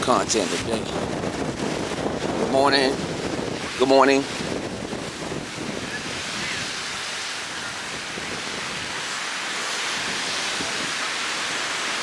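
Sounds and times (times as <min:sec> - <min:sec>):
ocean surf: 0:00.0 - 0:12.0
wind: 0:00.0 - 0:12.0.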